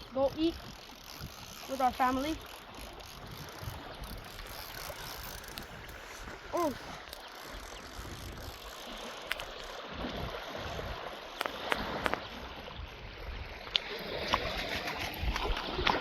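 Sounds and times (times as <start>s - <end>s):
water rushing: 0.0s - 16.0s
wind buffeting microphone: 0.0s - 16.0s.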